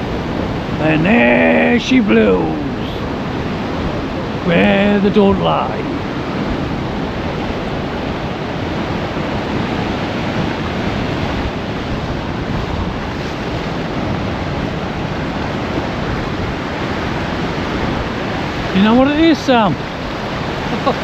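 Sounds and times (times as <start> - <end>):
wind buffeting microphone: 0.0 - 19.0
waves breaking on beach: 0.0 - 21.0.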